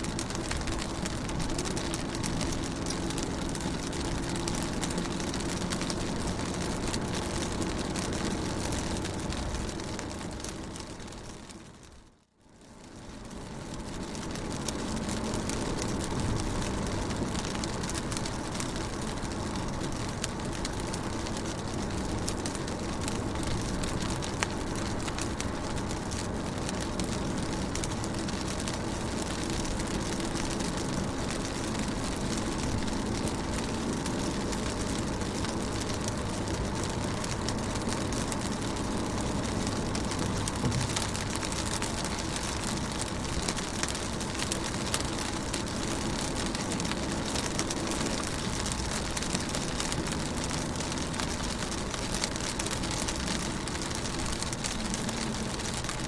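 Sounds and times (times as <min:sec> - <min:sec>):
rain on a car window: 0:00.0 - 0:56.0.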